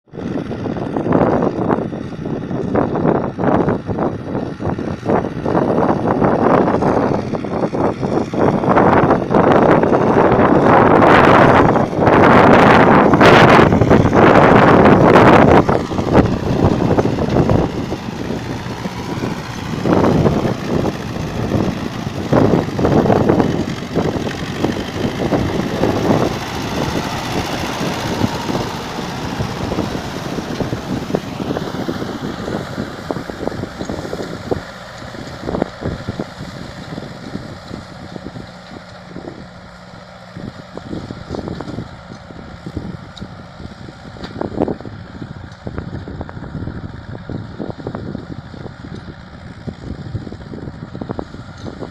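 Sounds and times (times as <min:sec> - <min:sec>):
tractor diesel engine running: 0:00.1 - 0:51.9
wind buffeting microphone: 0:00.1 - 0:51.9.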